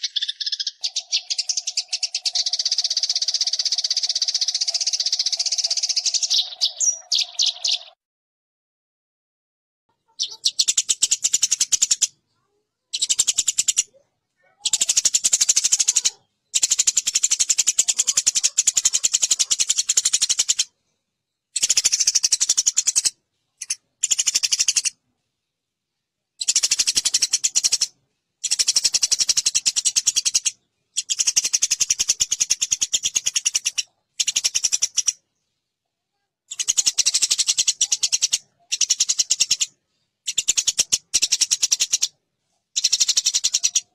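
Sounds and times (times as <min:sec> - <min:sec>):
sparrows chirping harshly: 0:00.0 - 0:08.0, 0:10.0 - 0:25.7, 0:26.3 - 0:35.7, 0:36.5 - 0:43.9.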